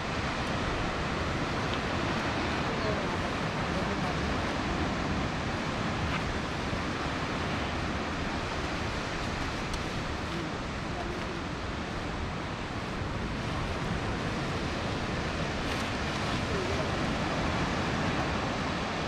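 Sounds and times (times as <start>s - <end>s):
sea surf washing onto beach: 0.0s - 19.0s
wind rumbling on microphone: 0.0s - 19.0s.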